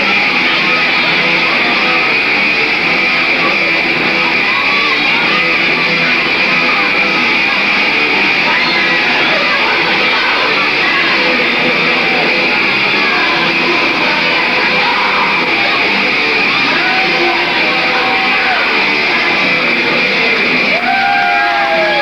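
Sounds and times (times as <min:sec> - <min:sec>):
hard rock music: 0:00.0 - 0:22.0
loud yells: 0:00.0 - 0:22.0.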